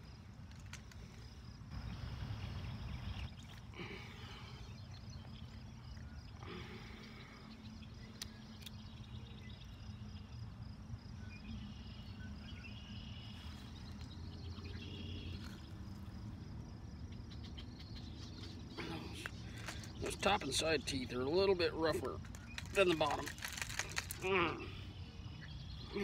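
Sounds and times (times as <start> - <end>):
insects trilling: 0.0 - 26.0
short higher insect calls: 0.0 - 26.0.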